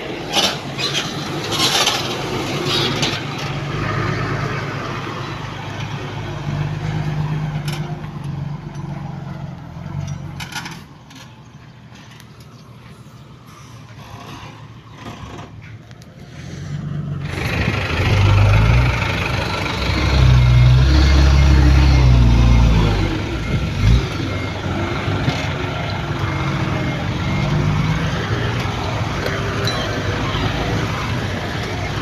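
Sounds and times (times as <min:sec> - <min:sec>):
diesel machinery droning: 0:00.0 - 0:32.0.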